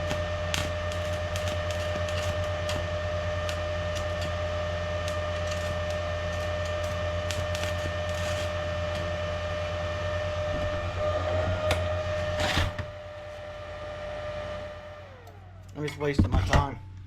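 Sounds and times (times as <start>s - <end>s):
arc welder humming and crackling: 0.0s - 17.0s.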